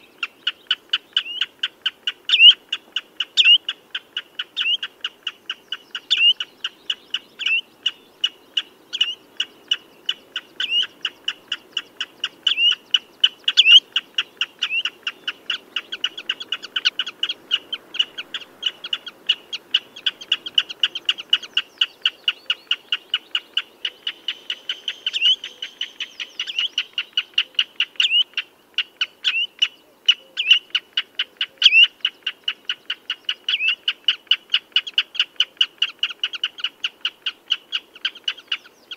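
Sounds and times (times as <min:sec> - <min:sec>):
bird piping calls: 0:00.0 - 0:38.9.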